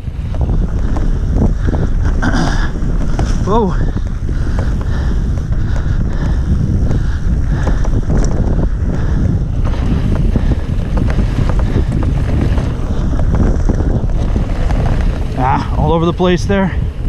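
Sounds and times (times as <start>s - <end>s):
bike rattling over bumps: 0.0s - 17.0s
tyre rumble: 0.0s - 17.0s
wind noise on microphone: 0.0s - 17.0s.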